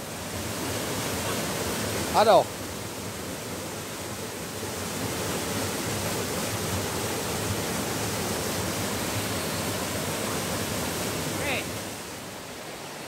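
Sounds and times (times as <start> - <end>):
waterfall pouring into pool: 0.0 - 12.1.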